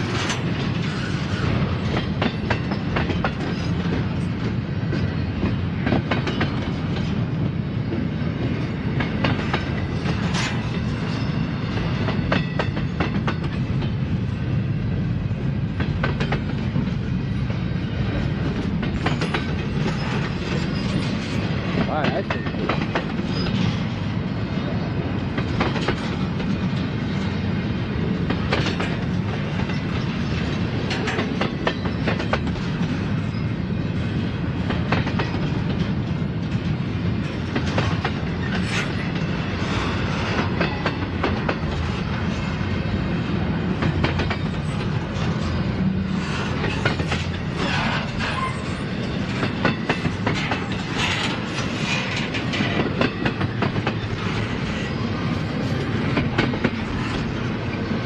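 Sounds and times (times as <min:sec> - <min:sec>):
wheels clicking over rail joints: 0:00.0 - 0:14.1, 0:15.7 - 0:24.0, 0:25.3 - 0:58.0
freight train rumbling past: 0:00.0 - 0:58.0.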